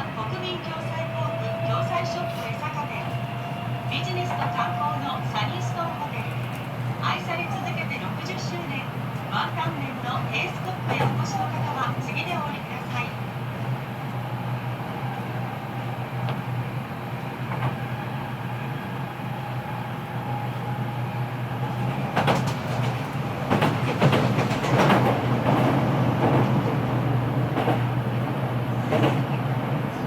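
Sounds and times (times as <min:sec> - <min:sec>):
subway car motor hum: 0:00.0 - 0:30.0.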